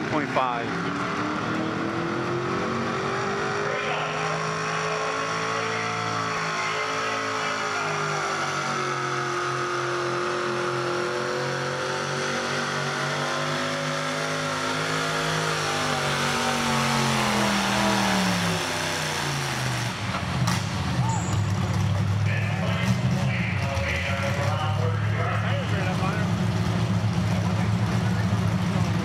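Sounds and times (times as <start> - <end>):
truck engine at high revs: 0.0 - 29.0.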